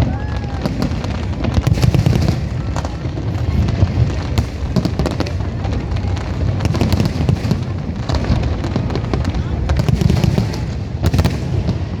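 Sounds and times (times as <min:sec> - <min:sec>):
fireworks cracking and popping: 0:00.0 - 0:12.0
low rumble of fireworks booms: 0:00.0 - 0:12.0.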